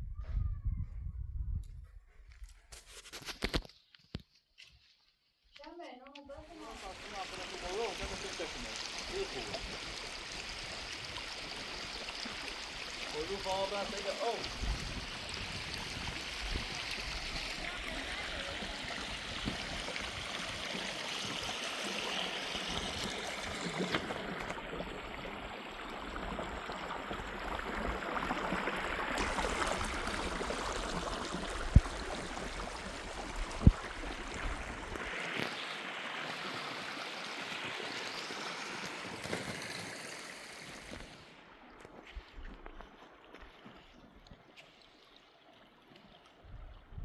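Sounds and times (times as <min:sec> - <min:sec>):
water running and splashing: 0:06.4 - 0:46.6.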